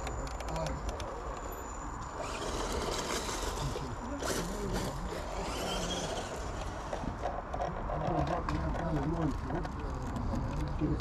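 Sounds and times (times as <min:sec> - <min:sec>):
rc crawler motor whirring: 0:00.0 - 0:10.9.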